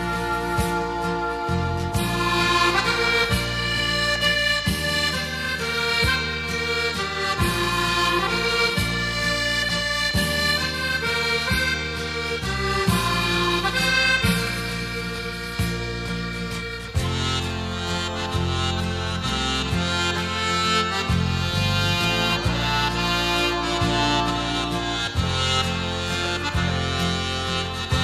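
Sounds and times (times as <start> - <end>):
accordion-like instrumental music: 0.0 - 28.0.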